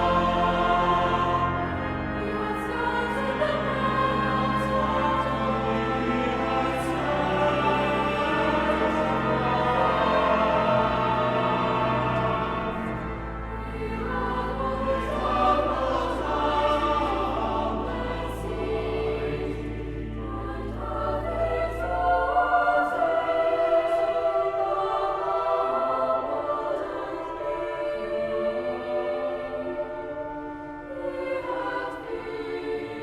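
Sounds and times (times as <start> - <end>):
choir singing: 0.0 - 33.0.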